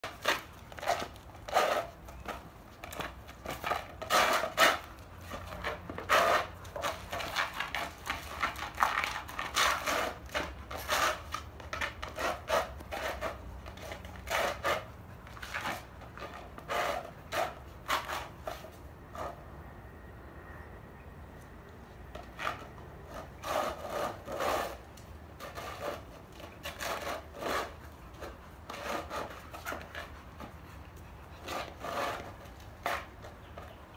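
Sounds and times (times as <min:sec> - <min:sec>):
frisbee scraping on concrete: 0:00.0 - 0:19.7, 0:21.8 - 0:33.9.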